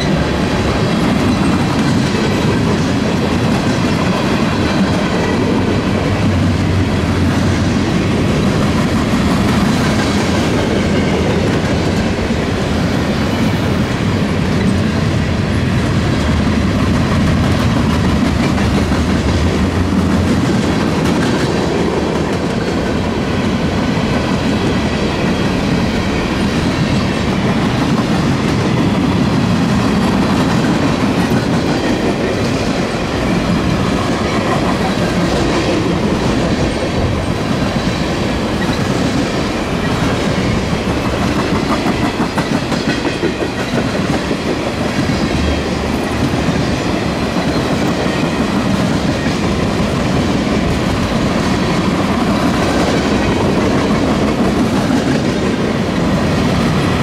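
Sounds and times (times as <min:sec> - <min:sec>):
freight train cars rolling past: 0:00.0 - 0:57.0.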